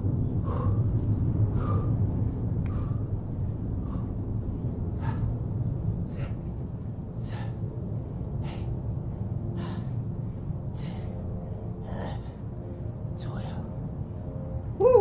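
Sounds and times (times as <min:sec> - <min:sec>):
low background rumble: 0:00.0 - 0:15.0
man breathing hard: 0:00.3 - 0:12.9.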